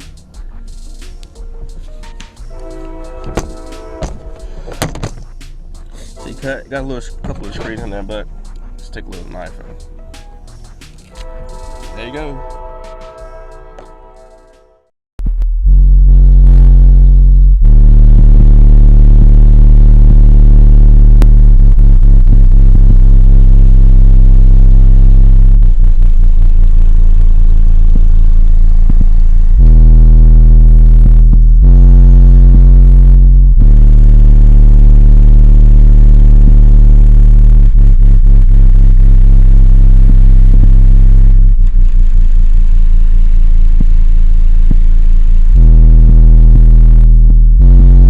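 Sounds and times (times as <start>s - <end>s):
car subwoofers deep bass notes: 0.0s - 14.4s, 15.2s - 48.0s.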